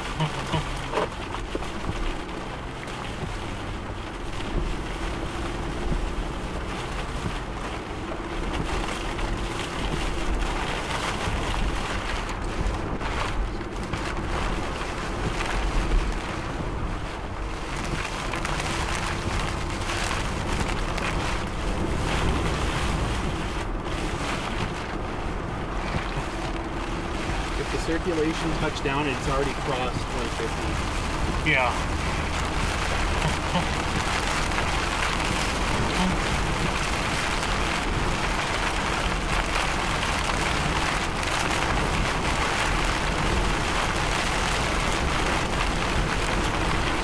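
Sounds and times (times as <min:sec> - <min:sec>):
road noise: 0:00.0 - 0:47.0.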